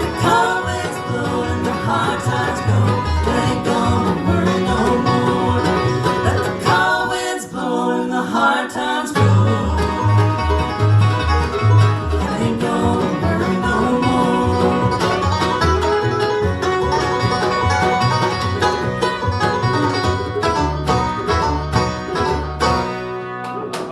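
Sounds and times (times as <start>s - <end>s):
guitar picking: 0.0s - 7.2s, 9.2s - 23.9s
banjo picking: 0.0s - 23.9s
upright bass: 0.0s - 23.9s.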